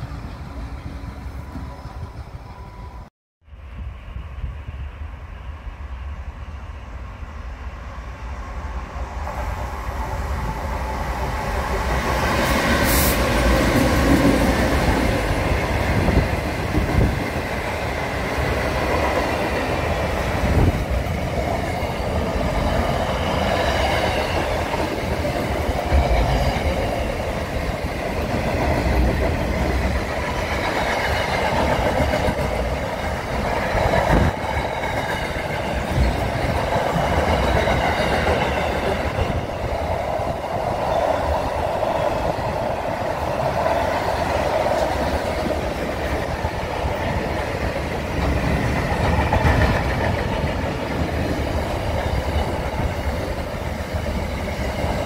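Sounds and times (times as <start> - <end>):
locomotive approaching: 0.0 - 55.0.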